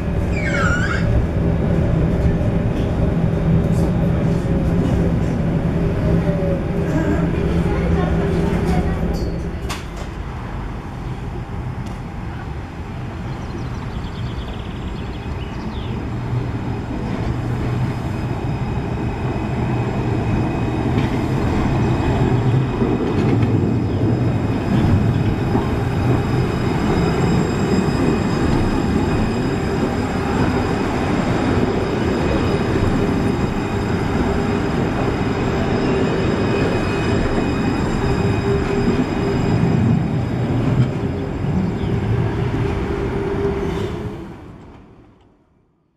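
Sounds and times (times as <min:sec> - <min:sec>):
tram wheels rumbling on rail: 0:00.0 - 0:45.5.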